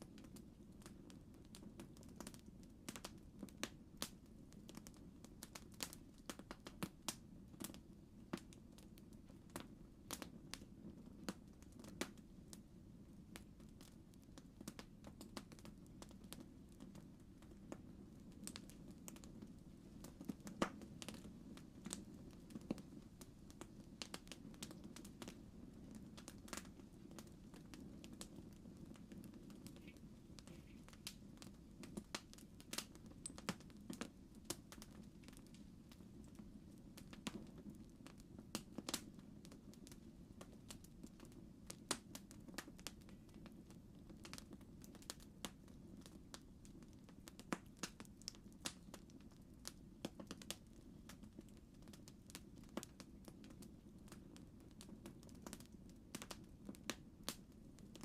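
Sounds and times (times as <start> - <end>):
campfire crackles and pops: 0.0 - 58.0.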